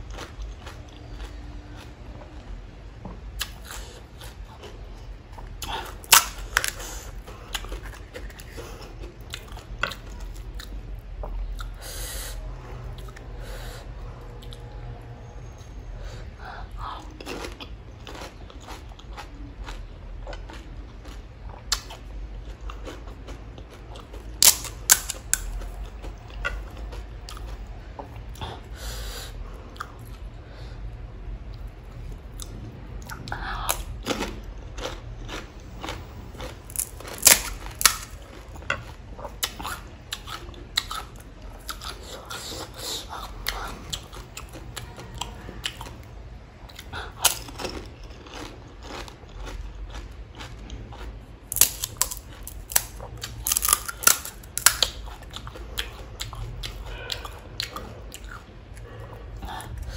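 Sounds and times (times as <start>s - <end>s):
person chewing crunchy food: 0.0s - 2.4s, 3.0s - 11.8s, 16.7s - 28.7s, 31.5s - 59.9s.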